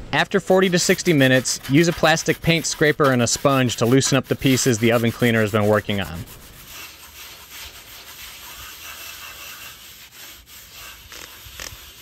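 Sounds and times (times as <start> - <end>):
scraper scrubbing metal grill: 0.4 - 12.0.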